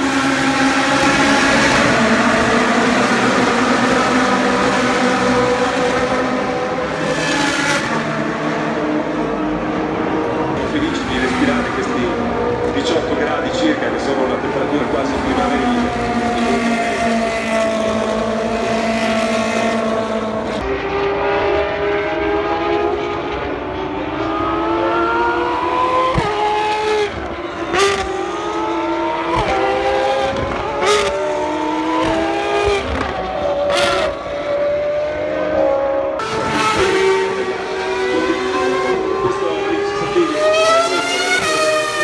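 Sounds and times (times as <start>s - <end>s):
race car engines revving: 0.0s - 42.0s.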